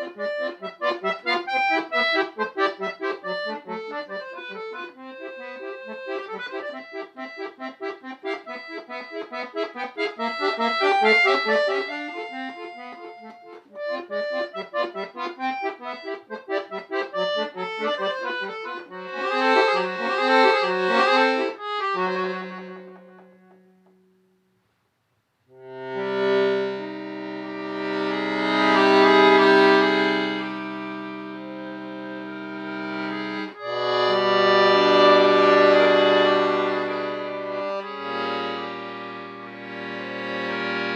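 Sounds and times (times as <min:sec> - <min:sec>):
solo accordion playing: 0:00.0 - 0:24.2, 0:25.5 - 0:40.9.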